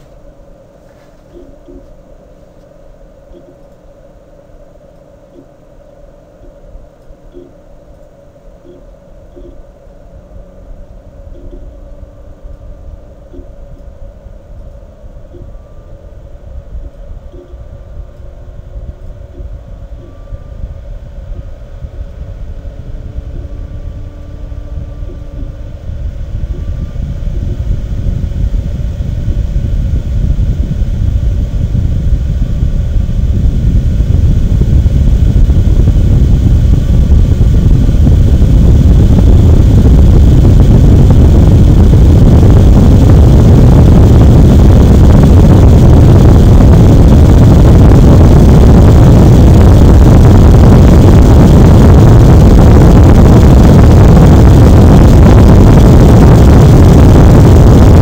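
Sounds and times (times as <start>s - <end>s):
cooling fan blowing air: 0.0s - 58.0s.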